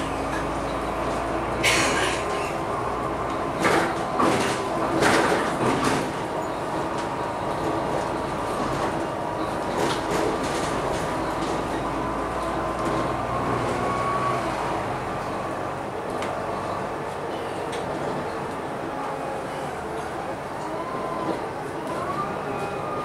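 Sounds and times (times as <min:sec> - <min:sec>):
bus diesel engine: 0:00.0 - 0:23.0
road noise: 0:00.0 - 0:23.0.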